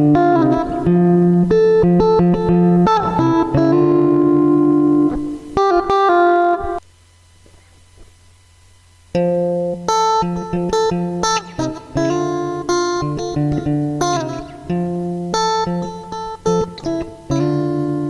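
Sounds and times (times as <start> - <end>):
electric guitar chords: 0.0 - 6.8, 9.1 - 18.0
faint amp hum: 0.0 - 18.0.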